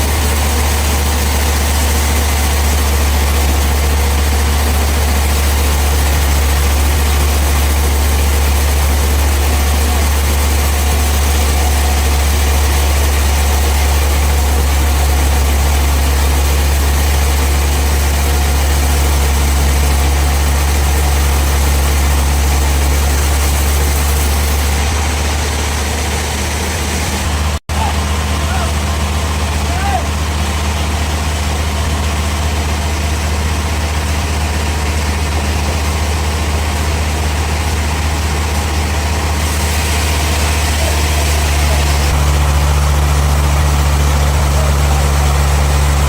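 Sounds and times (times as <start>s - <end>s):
sawmill machinery drone: 0.0s - 46.0s.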